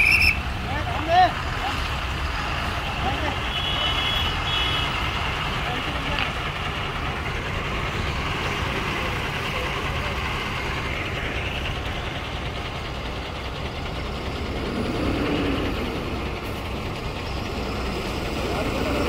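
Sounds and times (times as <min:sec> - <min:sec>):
road noise: 0:00.0 - 0:19.0
truck engine rumbling: 0:00.0 - 0:19.0.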